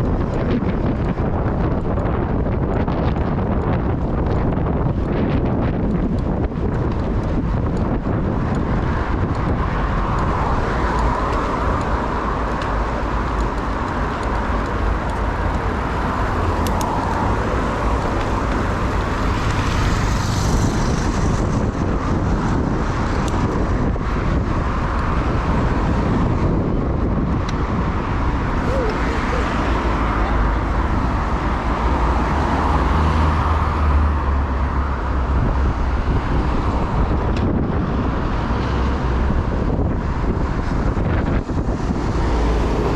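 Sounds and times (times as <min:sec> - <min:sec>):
street traffic: 0:00.0 - 0:42.9
wind rumble on microphone: 0:00.0 - 0:42.9.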